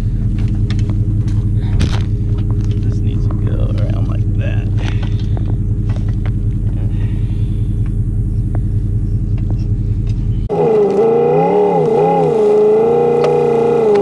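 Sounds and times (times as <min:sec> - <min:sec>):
engine pulling under load: 0:00.0 - 0:14.0
truck engine rumbling: 0:00.0 - 0:14.0.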